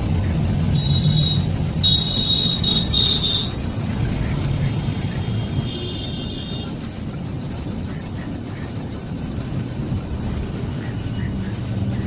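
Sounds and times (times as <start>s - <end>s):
train rumbling: 0.0s - 12.0s
wheels squealing on rails: 0.0s - 12.0s.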